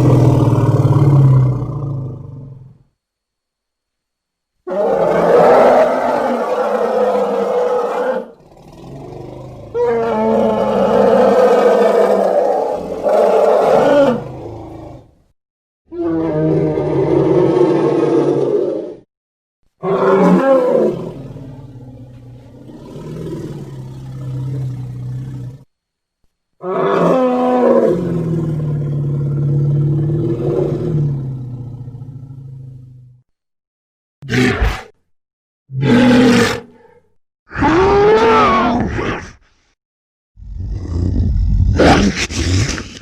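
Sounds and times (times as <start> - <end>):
dinosaur roar: 0.0 - 2.8, 4.7 - 15.1, 15.9 - 19.0, 19.8 - 25.7, 26.6 - 33.2, 35.7 - 39.4, 40.4 - 43.0.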